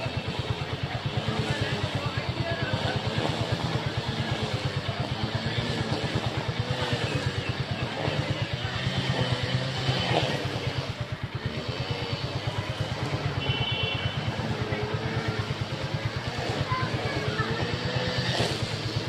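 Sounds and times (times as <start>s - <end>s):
faint voices: 0.0s - 19.0s
small engine idling: 0.0s - 19.0s.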